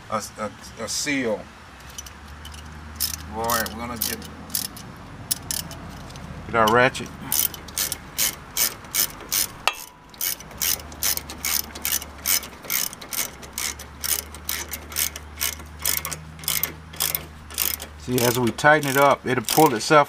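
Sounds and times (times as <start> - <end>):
socket ratchet clicking: 1.8 - 20.0.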